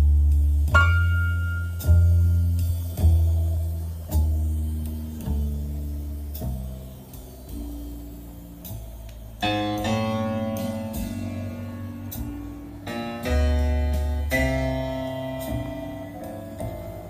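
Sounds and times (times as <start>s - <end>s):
piano music over loudspeakers: 0.0s - 6.3s, 8.9s - 17.0s
deep bass note: 0.0s - 17.0s.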